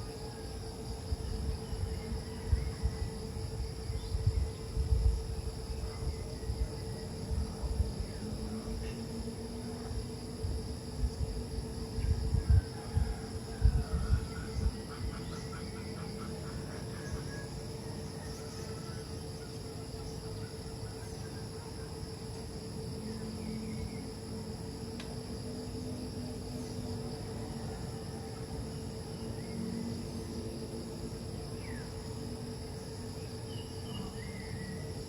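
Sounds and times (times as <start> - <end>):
crickets and insects chorus: 0.0 - 35.0
low steady hum: 0.0 - 35.0.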